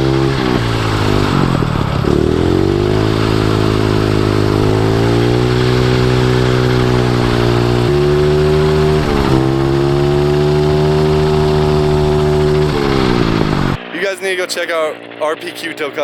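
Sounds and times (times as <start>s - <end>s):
small engine revving high: 0.0s - 14.0s.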